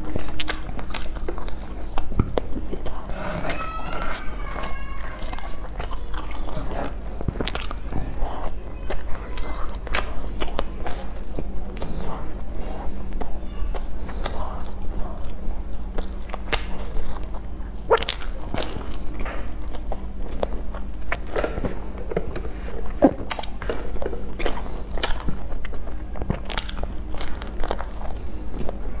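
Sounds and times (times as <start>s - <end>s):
wet chewing and lip smacks: 0.0s - 28.8s
steady low hum: 0.0s - 29.0s.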